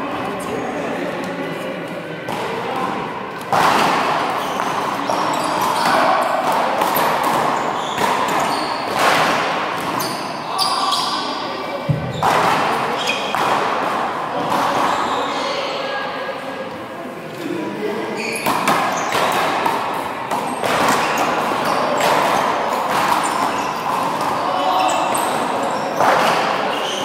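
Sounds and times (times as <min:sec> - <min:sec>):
sneakers squeaking: 0:00.2 - 0:01.0, 0:02.7 - 0:13.6, 0:14.5 - 0:16.0, 0:18.1 - 0:27.0.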